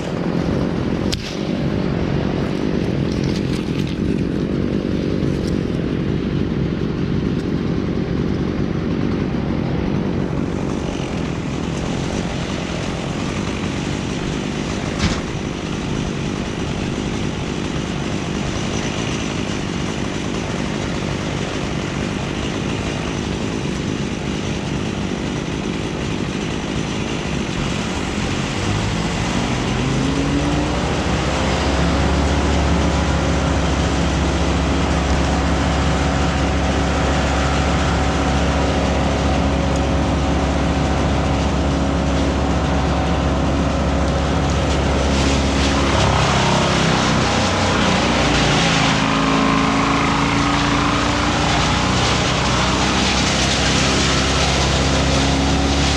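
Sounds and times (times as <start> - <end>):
motor running at high speed: 0.0 - 55.9.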